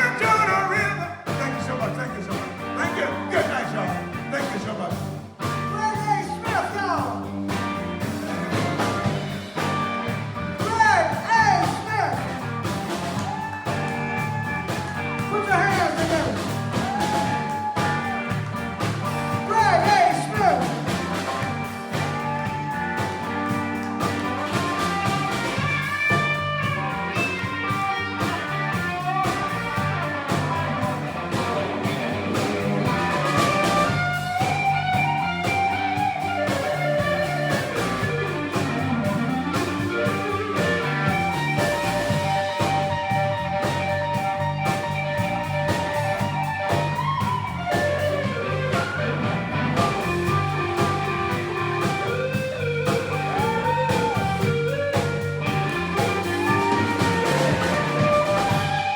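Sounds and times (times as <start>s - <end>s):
bass guitar groove: 0.0s - 58.9s
drums: 0.0s - 58.9s
electric blues guitar solo: 0.0s - 58.9s.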